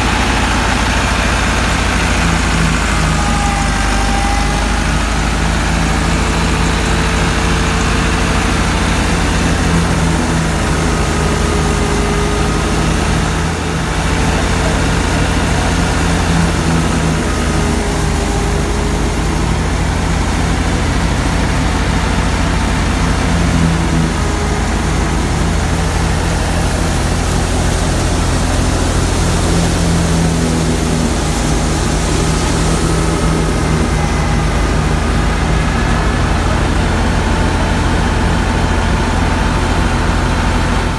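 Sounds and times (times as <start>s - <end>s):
tractor and thresher droning: 0.0s - 40.9s.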